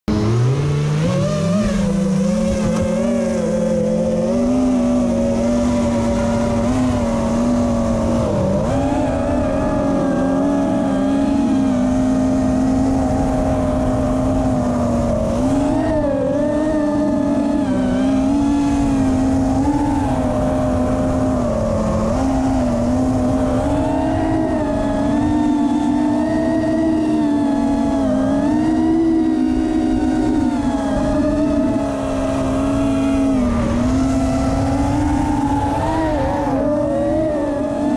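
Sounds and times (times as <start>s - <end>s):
quadcopter motors buzzing: 0.1s - 37.9s.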